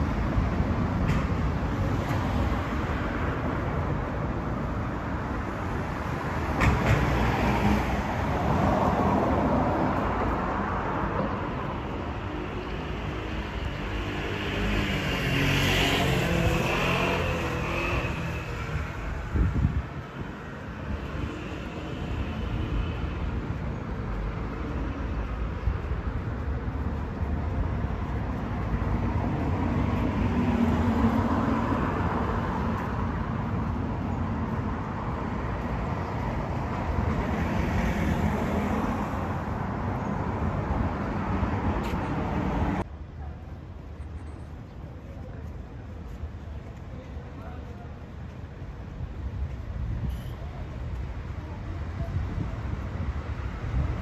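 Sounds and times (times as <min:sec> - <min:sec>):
cars passing: 0:00.0 - 0:54.0.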